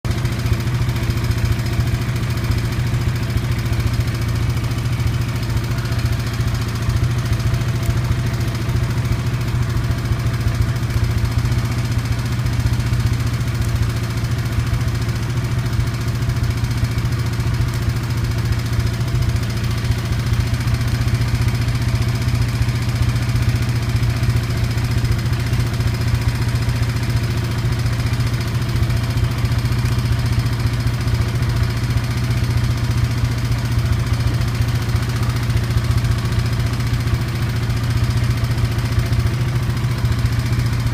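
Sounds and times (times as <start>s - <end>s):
atv engine idling: 0.0s - 40.9s.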